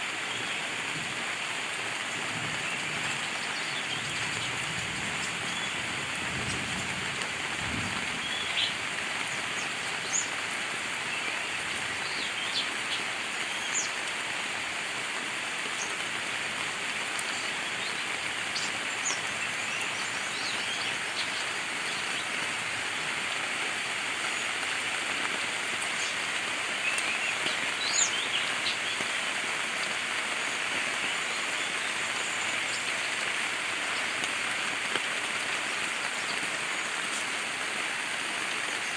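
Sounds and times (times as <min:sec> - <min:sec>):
birds chirping: 0:00.0 - 0:38.9
steady rain falling: 0:00.0 - 0:38.9.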